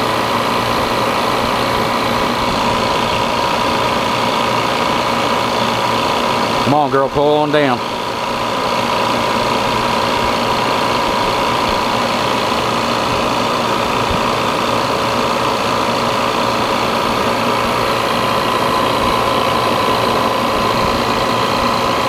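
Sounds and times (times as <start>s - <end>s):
compressor machine running: 0.0s - 22.0s.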